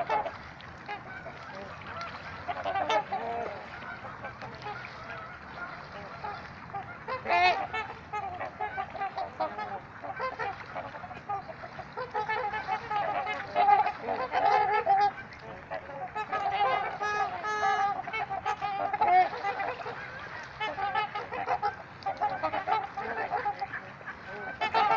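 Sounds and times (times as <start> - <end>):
swans honking: 0.0 - 24.9.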